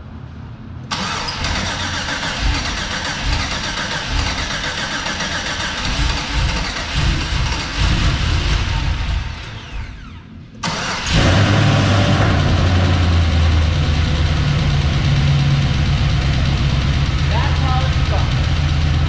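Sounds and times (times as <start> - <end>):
car engine cranking and idling: 0.9 - 19.0.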